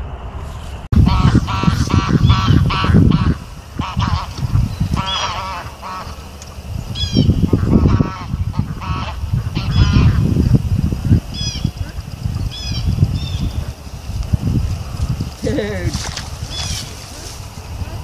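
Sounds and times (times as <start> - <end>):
steady low rumble: 0.0 - 18.0
geese honking: 1.0 - 14.0, 16.4 - 18.0.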